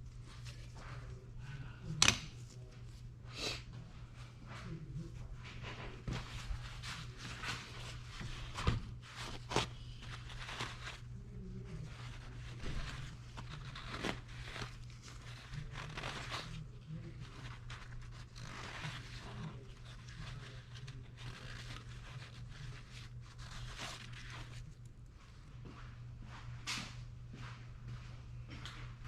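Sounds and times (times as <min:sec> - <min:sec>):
rustling and scraping handling noises: 0:00.0 - 0:27.0
steady low hum: 0:00.0 - 0:29.0.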